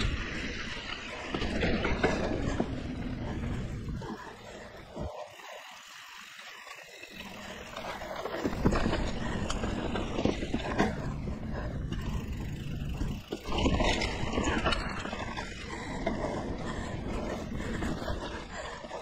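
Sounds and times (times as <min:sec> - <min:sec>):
bike rattling clicks: 0:00.0 - 0:19.0.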